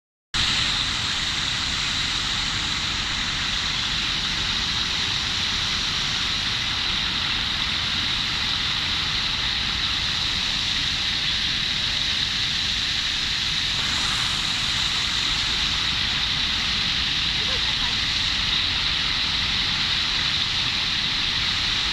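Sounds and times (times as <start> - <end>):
stream running and bubbling: 0.4 - 21.9.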